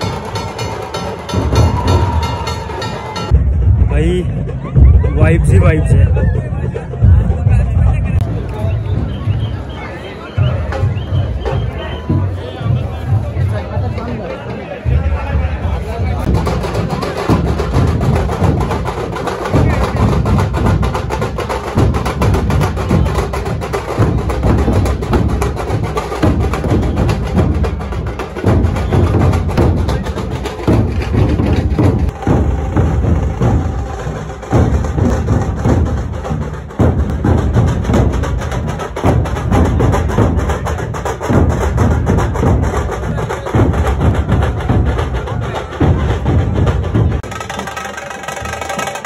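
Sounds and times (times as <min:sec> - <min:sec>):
drum-led music with heavy bass: 0:00.0 - 0:08.4, 0:14.9 - 0:49.0.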